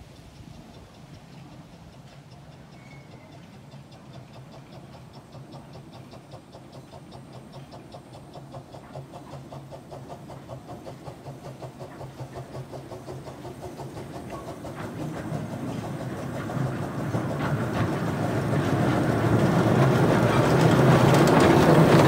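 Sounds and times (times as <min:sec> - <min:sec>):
steam locomotive exhaust beats: 0:00.0 - 0:22.0.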